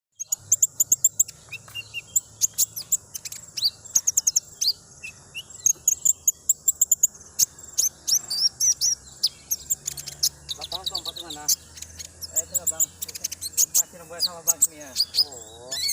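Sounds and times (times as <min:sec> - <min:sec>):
sunbird high chirps and twitters: 0:00.2 - 0:15.9.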